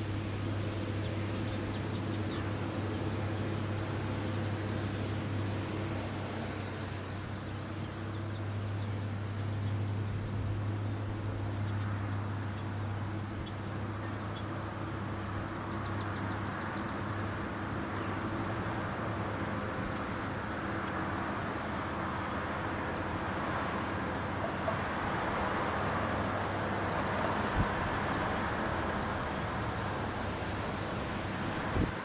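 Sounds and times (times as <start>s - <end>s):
harvester engine humming: 0.0s - 13.9s, 14.6s - 32.0s.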